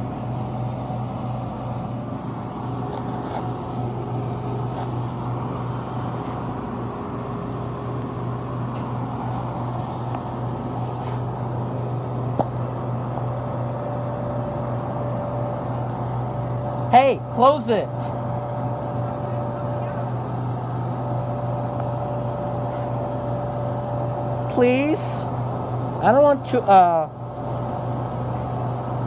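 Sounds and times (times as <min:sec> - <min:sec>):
air conditioner humming: 0:00.0 - 0:29.0.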